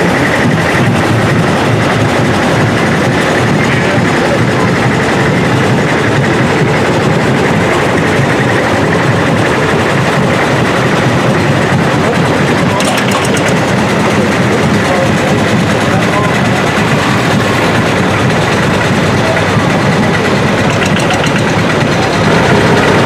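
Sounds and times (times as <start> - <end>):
dumper engine chugging: 0.0 - 23.0.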